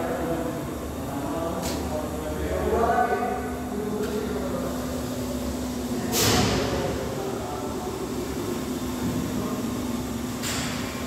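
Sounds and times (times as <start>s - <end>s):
factory machinery hum: 0.0s - 11.0s.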